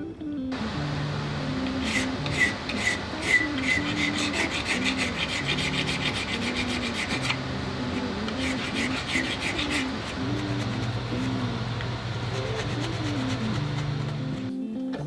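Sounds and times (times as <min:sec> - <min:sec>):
hand file scraping: 0:00.6 - 0:14.5.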